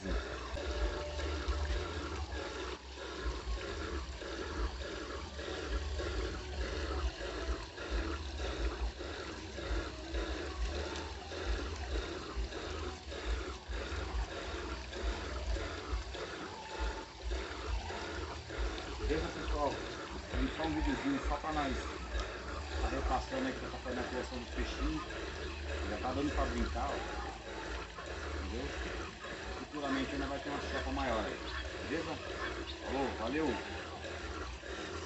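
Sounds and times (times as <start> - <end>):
water running and trickling: 0.0 - 35.0.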